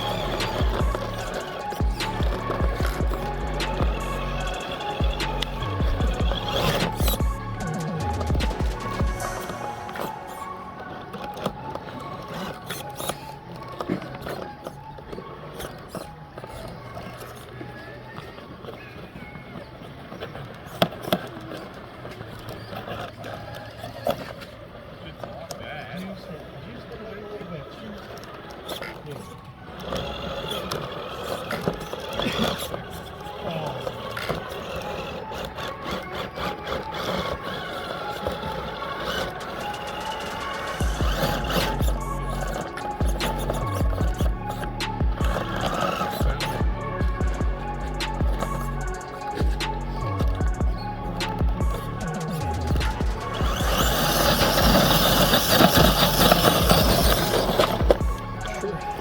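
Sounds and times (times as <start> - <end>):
electric motor and gears whirring: 0.0 - 24.6, 27.8 - 59.0
tyres scraping on rock: 0.0 - 59.0.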